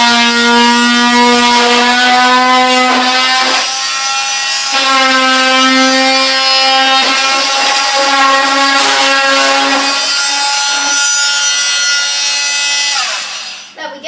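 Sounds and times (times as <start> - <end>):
mini chainsaw cutting cardboard: 0.0 - 13.7.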